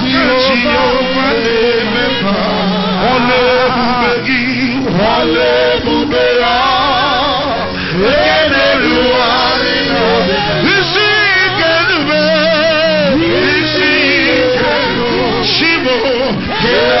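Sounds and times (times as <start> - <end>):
held accompanying tones: 0.0 - 17.0
man singing ornamented melody: 0.0 - 17.0.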